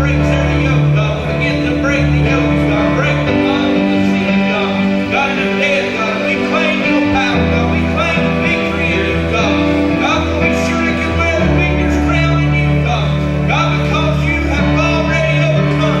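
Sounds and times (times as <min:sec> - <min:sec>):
bass guitar: 0:00.0 - 0:16.0
keyboard chords: 0:00.0 - 0:16.0
person singing: 0:00.0 - 0:16.0.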